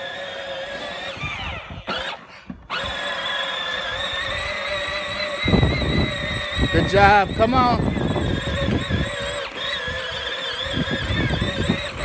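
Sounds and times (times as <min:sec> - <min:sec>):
electric toy motor whining: 0:00.0 - 0:12.0.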